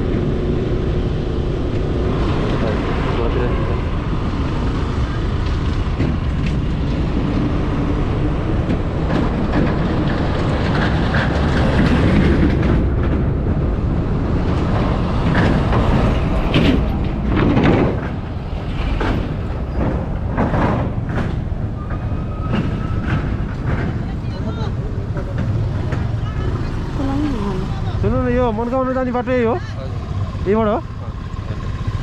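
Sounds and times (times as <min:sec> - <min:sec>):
motorcycle engine and wind rumble: 0:00.0 - 0:32.0
motorcycle rattling and knocking: 0:01.4 - 0:32.0.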